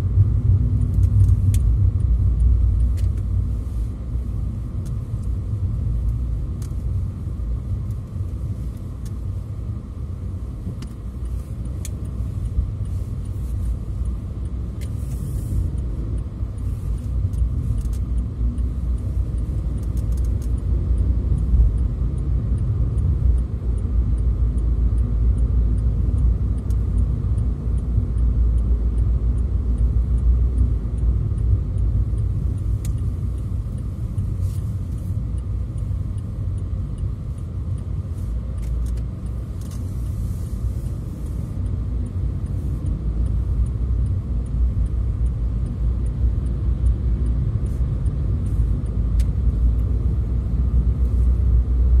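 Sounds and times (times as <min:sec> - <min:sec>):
road and engine rumble: 0:00.0 - 0:52.0.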